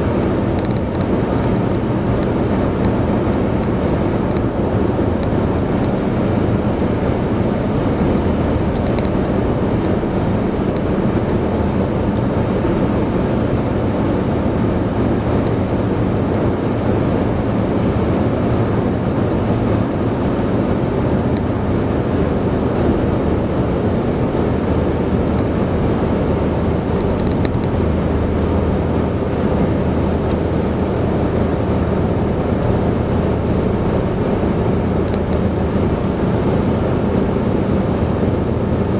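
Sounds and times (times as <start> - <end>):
car road noise drone: 0.0 - 38.9.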